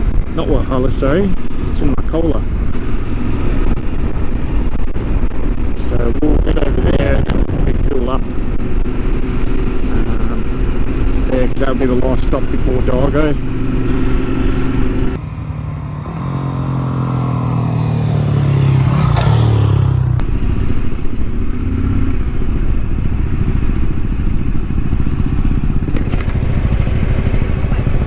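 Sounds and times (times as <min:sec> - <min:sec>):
motorcycle engine running: 0:00.0 - 0:28.0
road noise: 0:00.0 - 0:28.0.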